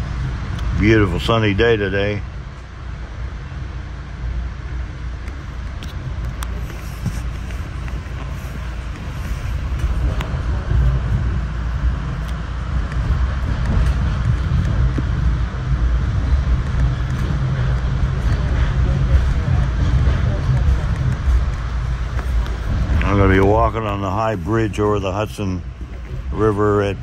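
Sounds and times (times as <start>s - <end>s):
train rumble from inside coach: 0.0s - 27.0s
wheel-on-rail noise: 0.0s - 27.0s.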